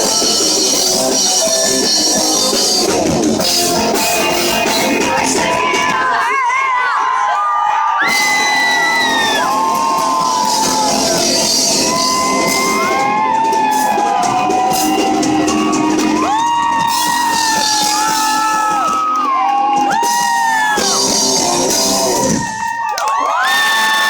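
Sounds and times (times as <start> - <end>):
live rock band playing: 0.0 - 6.2, 8.1 - 22.6
crowd shouting and whooping: 0.0 - 24.0.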